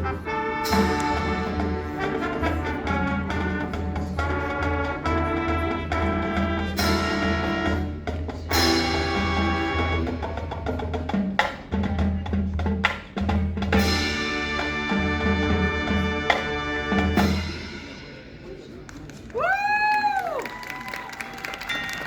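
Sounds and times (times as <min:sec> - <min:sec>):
marching band playing: 0:00.0 - 0:18.6.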